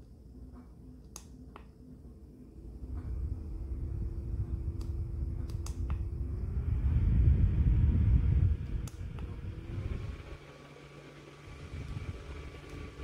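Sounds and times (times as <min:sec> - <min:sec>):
fan air rushing: 0:00.0 - 0:13.0
fan motor humming: 0:00.0 - 0:13.0.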